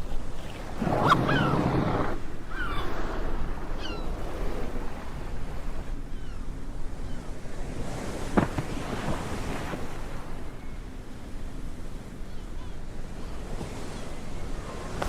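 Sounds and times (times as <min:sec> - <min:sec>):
sea surf washing: 0:00.0 - 0:15.0
wind on microphone: 0:00.0 - 0:15.0.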